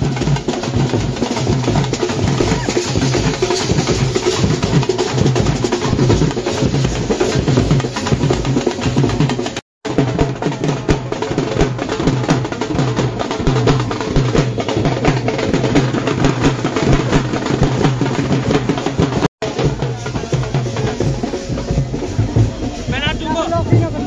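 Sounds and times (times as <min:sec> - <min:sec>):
dhol drum dance rhythm: 0:00.0 - 0:24.0.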